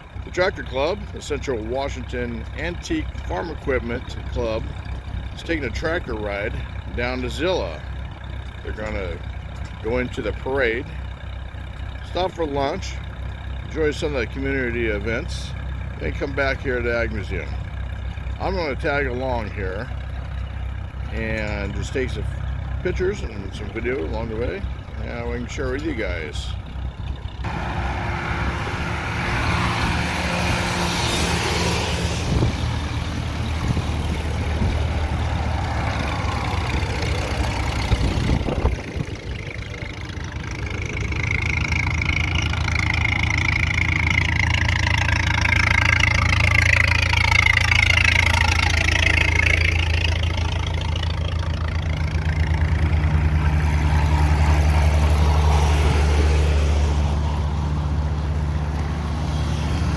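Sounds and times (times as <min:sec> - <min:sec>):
motor engines running: 0:00.0 - 0:59.9.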